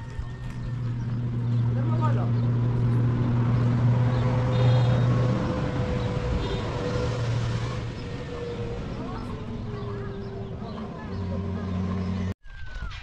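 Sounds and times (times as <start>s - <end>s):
engine humming: 0.0s - 12.4s.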